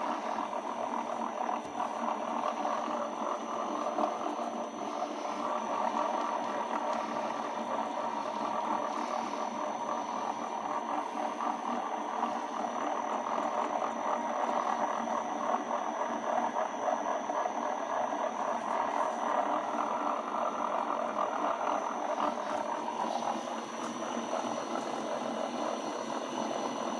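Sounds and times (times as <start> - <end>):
metal lathe running: 0.0 - 26.9.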